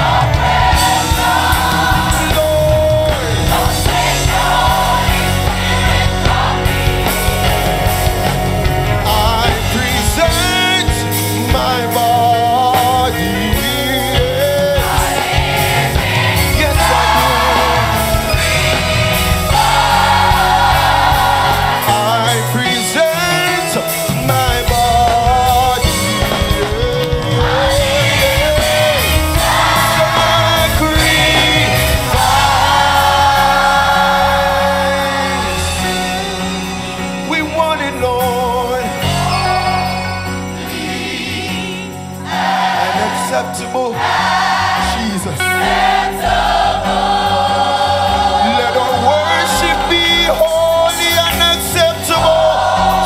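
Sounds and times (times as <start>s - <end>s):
gospel choir singing: 0.0s - 53.0s
live band with drums: 0.0s - 53.0s.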